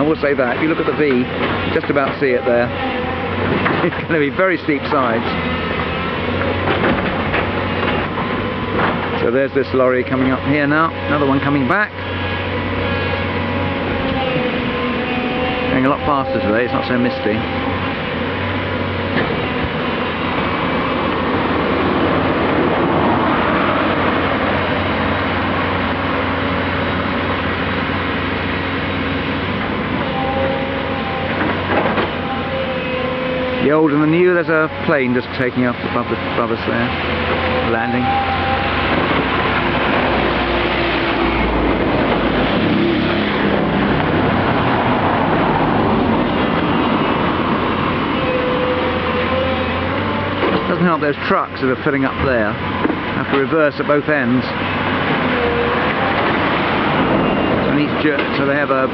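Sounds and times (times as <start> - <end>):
constant low hum: 0.0 - 58.9
diesel engines running: 0.0 - 58.9.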